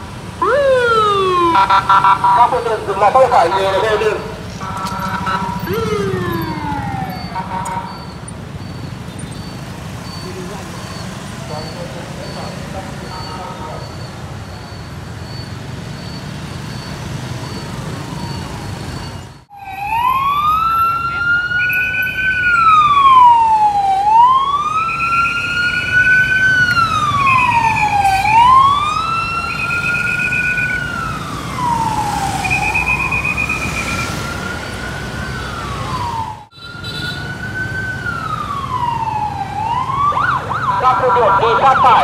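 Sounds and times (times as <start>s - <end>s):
police siren wailing: 0.0s - 8.8s, 9.7s - 42.0s
street traffic hum: 0.0s - 42.0s.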